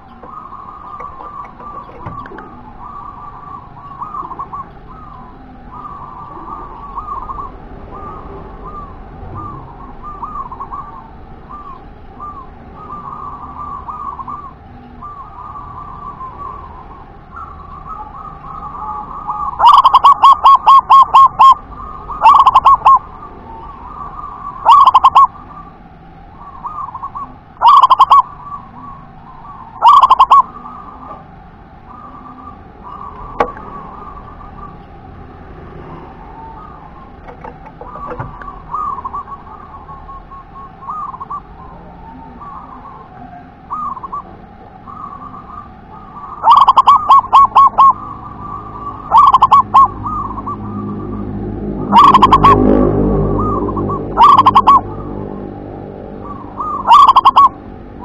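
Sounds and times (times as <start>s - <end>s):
dove cooing: 0.0s - 25.8s, 26.4s - 58.0s.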